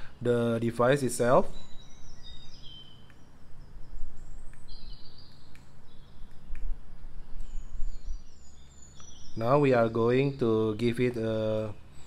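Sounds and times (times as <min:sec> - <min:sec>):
birds chirping: 0:00.0 - 0:12.0
low hum and rumble: 0:00.0 - 0:12.0.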